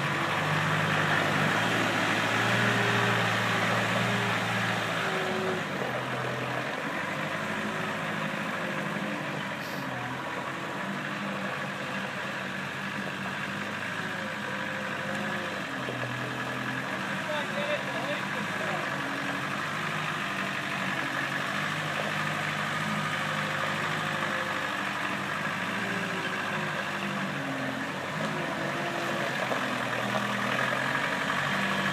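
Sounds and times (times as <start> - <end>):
forklift engine running: 0.0 - 31.9.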